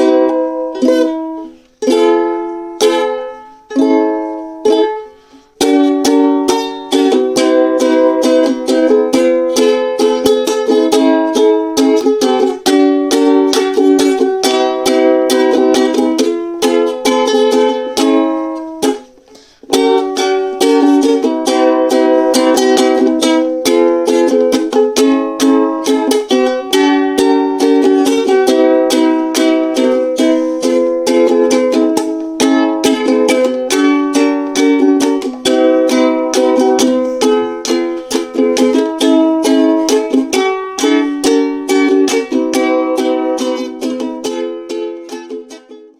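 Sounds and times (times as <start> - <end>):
plucked ukulele music: 0.0 - 45.9.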